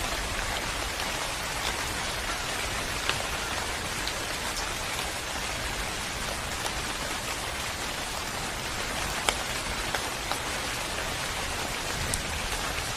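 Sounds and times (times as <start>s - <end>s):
sharp water drips: 0.0s - 12.9s
steady rain hiss: 0.0s - 12.9s.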